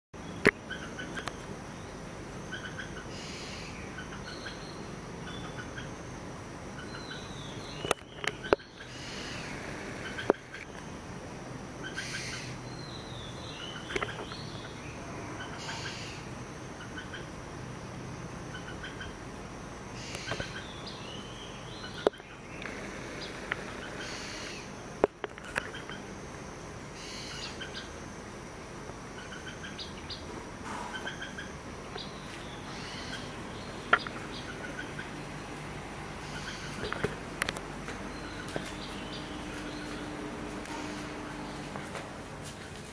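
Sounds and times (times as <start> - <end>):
birds singing and calling: 0.2 - 11.0, 11.8 - 26.2, 26.8 - 42.8.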